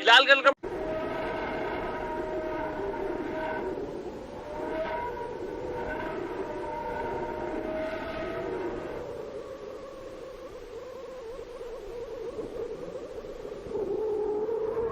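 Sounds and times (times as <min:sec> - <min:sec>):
layered drone of held tones: 0:00.6 - 0:14.9.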